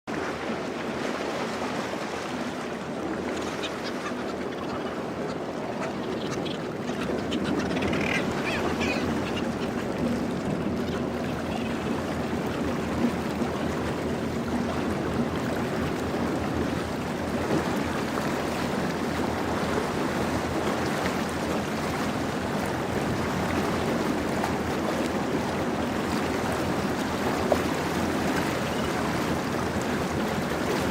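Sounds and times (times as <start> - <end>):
wind: 0.0 - 30.9
boat engine: 0.1 - 30.9
water wash: 0.1 - 30.9
seabirds cackling: 2.9 - 30.9.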